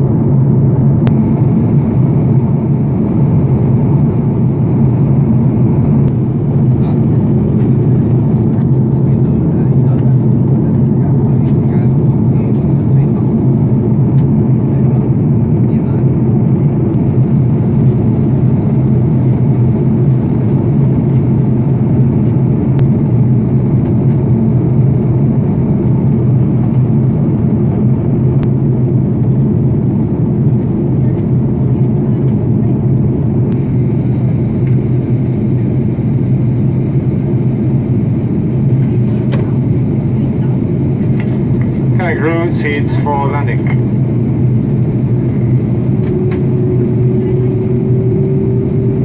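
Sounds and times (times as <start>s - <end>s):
airliner cabin engine drone: 0.0s - 49.0s
low hum tones: 0.0s - 49.0s.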